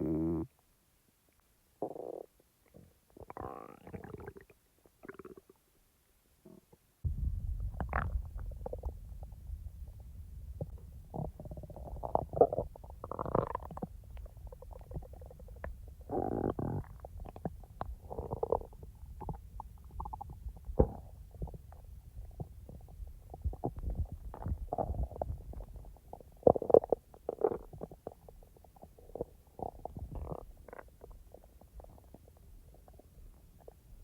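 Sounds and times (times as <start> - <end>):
stomach gurgling: 1.8 - 5.6, 6.5 - 34.0.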